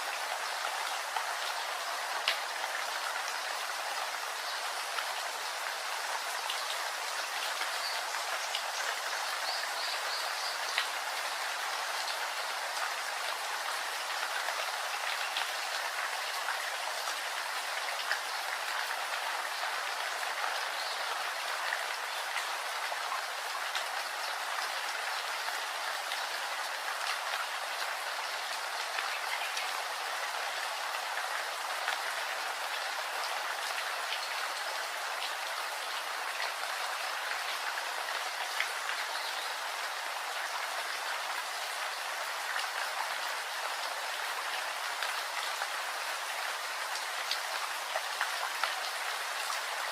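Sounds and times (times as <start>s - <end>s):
rain drops ticking on a surface: 0.0s - 49.9s.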